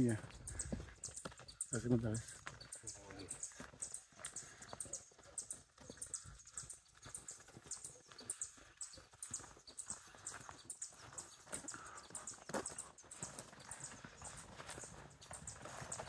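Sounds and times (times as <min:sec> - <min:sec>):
footsteps crunching on dirt trail: 0:00.0 - 0:16.0.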